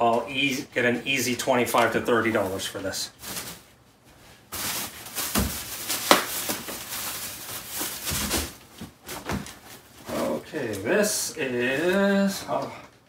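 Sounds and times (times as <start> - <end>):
rustling of shopping bags and clothing: 1.7 - 12.6.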